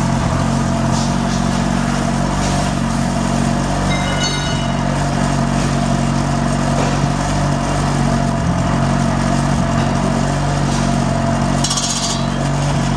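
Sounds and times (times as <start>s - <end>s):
concrete saw engine running: 0.0s - 12.9s.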